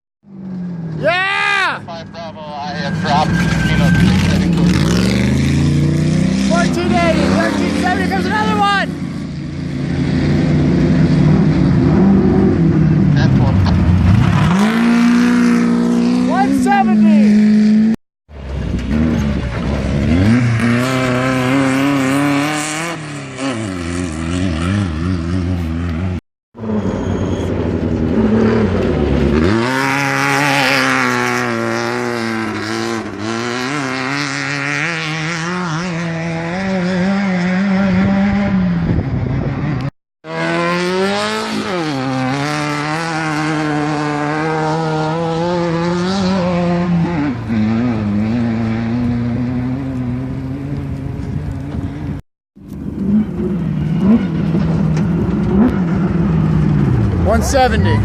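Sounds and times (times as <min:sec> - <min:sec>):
race vehicle engines revving: 0:00.3 - 0:58.0.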